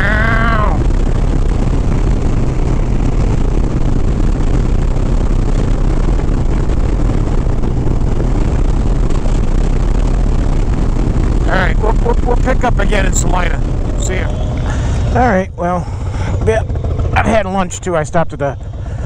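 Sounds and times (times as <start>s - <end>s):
motorcycle engine cruising: 0.0s - 19.0s
wind noise: 0.0s - 19.0s.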